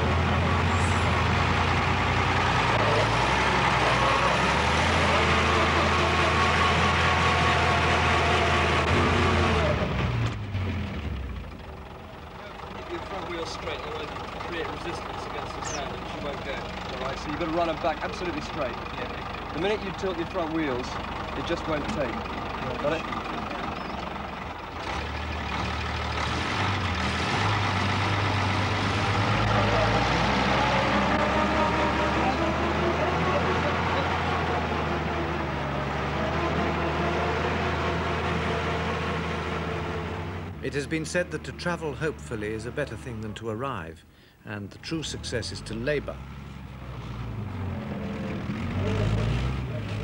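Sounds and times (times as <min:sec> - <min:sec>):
truck engine running hard: 0:00.0 - 0:50.0.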